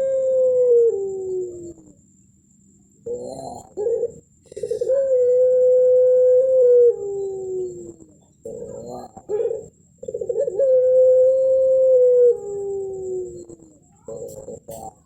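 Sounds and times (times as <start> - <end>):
dove cooing: 0.0 - 2.0, 3.0 - 15.0.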